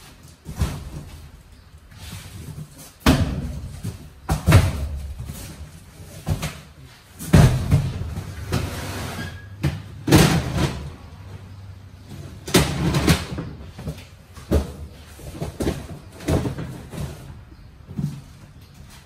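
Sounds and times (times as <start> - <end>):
carts knocking and clattering: 0.1 - 19.0.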